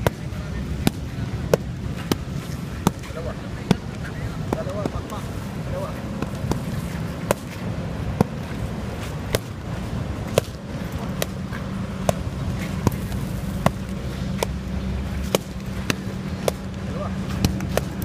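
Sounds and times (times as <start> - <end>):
stick smacking padded mitts: 0.0 - 5.4, 6.1 - 18.0
low hum: 0.0 - 18.0.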